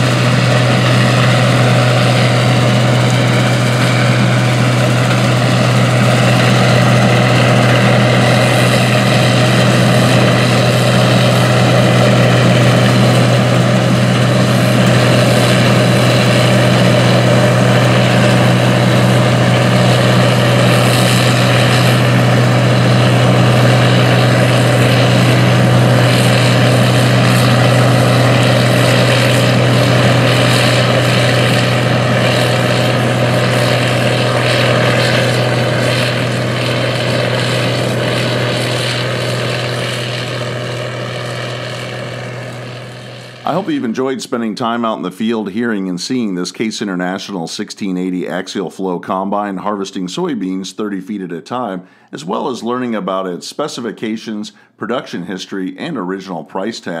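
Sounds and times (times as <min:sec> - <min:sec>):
combine harvester running: 0:00.0 - 0:45.8.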